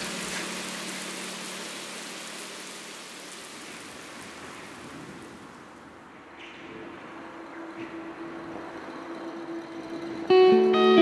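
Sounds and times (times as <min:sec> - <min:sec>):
steady hiss of noise: 0:00.0 - 0:11.0.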